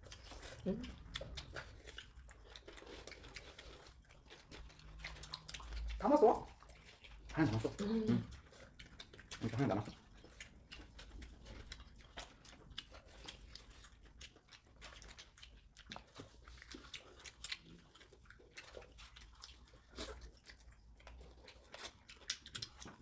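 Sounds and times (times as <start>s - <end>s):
mouth clicks and smacks: 0.0s - 23.0s
people chewing food: 0.0s - 23.0s.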